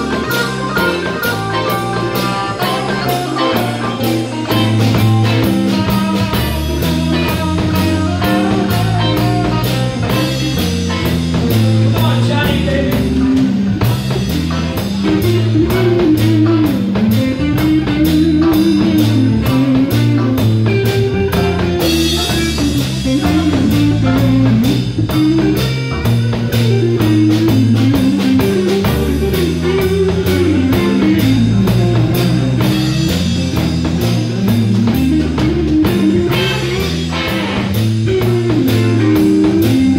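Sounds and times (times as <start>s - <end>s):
drum kit: 0.0s - 39.9s
electric bass: 0.0s - 39.9s
electric guitar lead: 0.0s - 39.9s.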